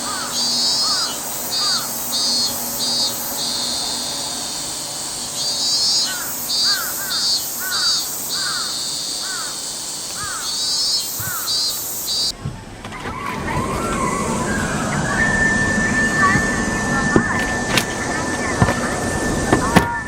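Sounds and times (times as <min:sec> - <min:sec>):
bird calling: 0:00.0 - 0:12.4, 0:13.0 - 0:20.0
cicadas buzzing: 0:00.0 - 0:12.4, 0:13.7 - 0:20.0.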